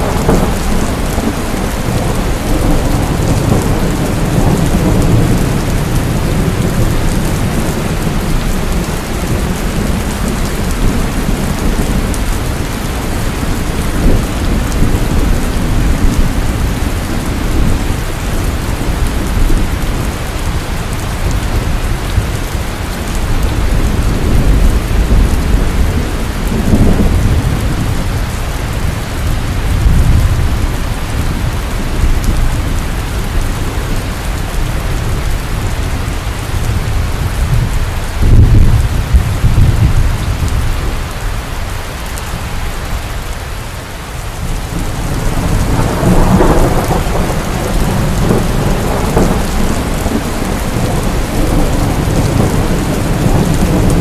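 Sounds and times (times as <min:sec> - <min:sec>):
rolling thunder: 0:00.0 - 0:41.2, 0:44.4 - 0:54.0
heavy rain pouring: 0:00.0 - 0:54.0.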